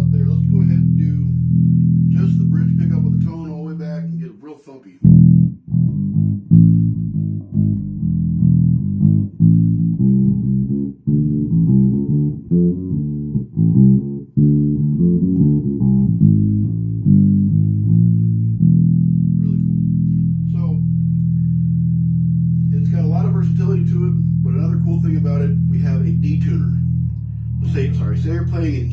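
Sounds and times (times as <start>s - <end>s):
electric bass plucked riff: 0.0s - 4.4s, 5.0s - 28.9s.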